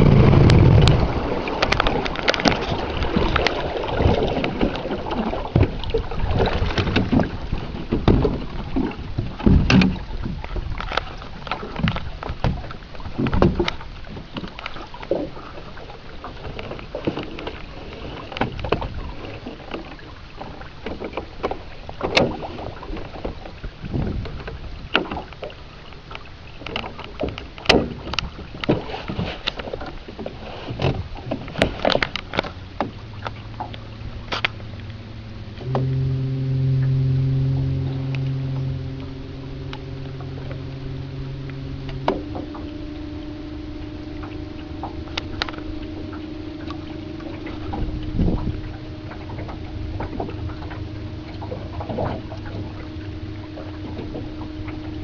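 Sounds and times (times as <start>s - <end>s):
hull slapping on water: 0.0s - 55.0s
water and wind rushing: 0.0s - 55.0s.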